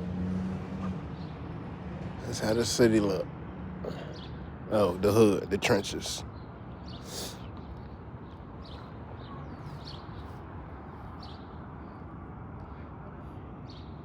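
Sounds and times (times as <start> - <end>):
low street rumble: 0.0 - 14.0.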